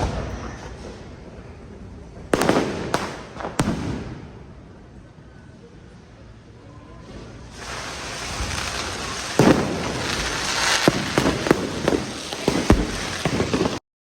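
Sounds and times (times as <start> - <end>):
fireworks crackling: 0.0 - 5.0, 7.0 - 13.8
fireworks sharp bangs: 0.0 - 5.0, 7.2 - 13.8.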